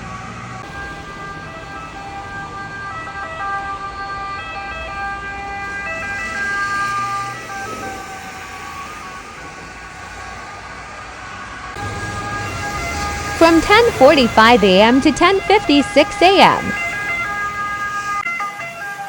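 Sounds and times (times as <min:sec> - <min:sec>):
emergency vehicle siren: 0:00.0 - 0:19.0
street traffic hum: 0:00.0 - 0:19.0.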